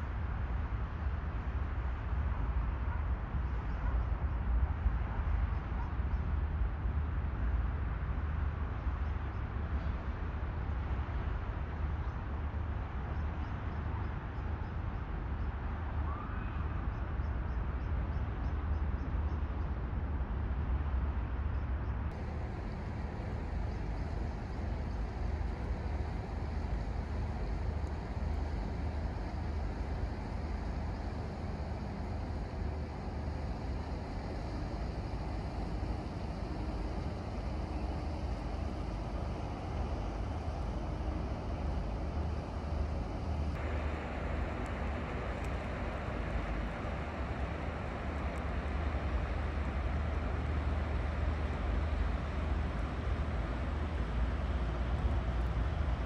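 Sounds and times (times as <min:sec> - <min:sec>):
low outdoor rumble and hiss: 0:00.0 - 0:56.0.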